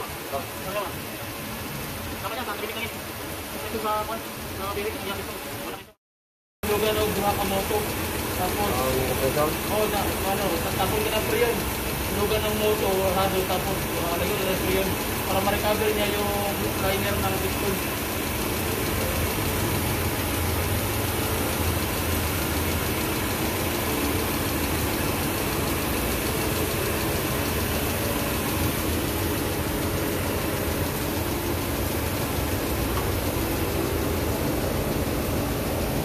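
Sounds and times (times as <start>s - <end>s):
car engine idling rough: 0.0s - 5.9s, 6.6s - 36.0s.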